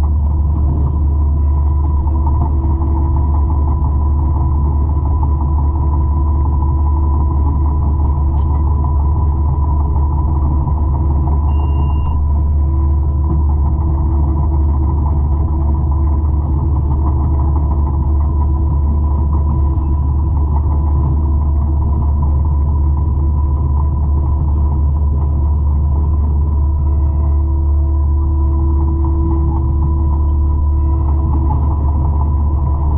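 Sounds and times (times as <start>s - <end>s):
constant machine whine: 0.0s - 32.9s
diesel engine deep drone: 0.0s - 32.9s.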